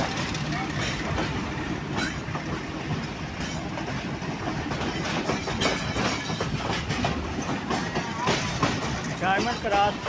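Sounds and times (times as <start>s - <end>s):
train rumbling on track: 0.0s - 10.0s
wheels clacking over rail joints: 0.0s - 10.0s.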